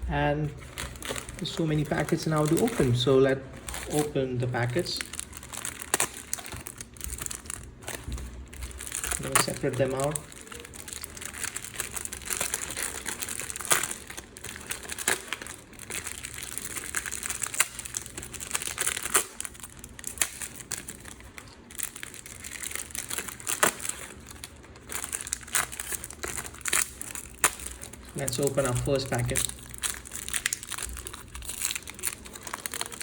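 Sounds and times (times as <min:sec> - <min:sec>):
plastic wrappers crackling: 0:00.2 - 0:33.0.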